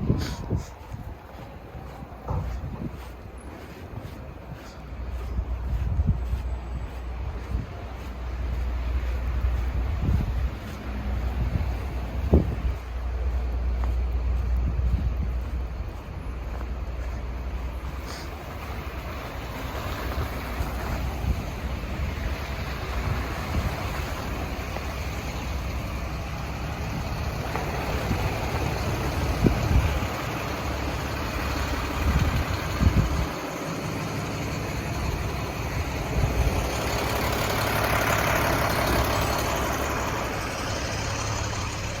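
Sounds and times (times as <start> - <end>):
wind rumbling on microphone: 0.0 - 41.9
city street traffic: 0.0 - 42.0
low bumps: 0.0 - 42.0
vehicle passing: 0.0 - 42.0.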